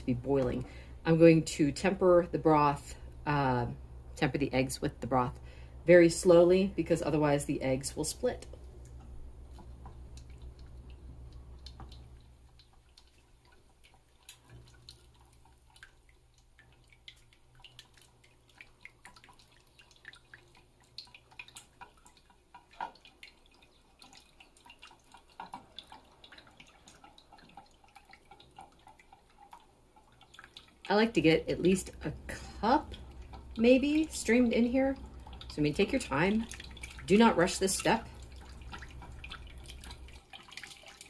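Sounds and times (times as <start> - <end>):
broth dripping from ladle: 5.3 - 41.0.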